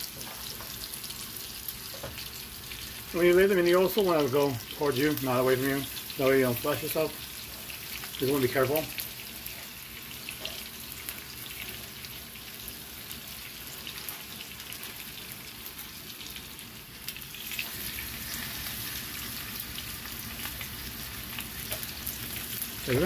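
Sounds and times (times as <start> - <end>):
steak sizzling in frying pan: 0.0 - 23.0.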